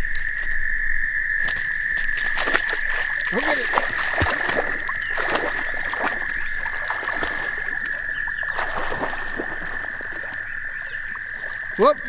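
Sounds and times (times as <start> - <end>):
trilling frog chorus: 0.0 - 12.0
water splashing by swimming dog: 2.2 - 12.0.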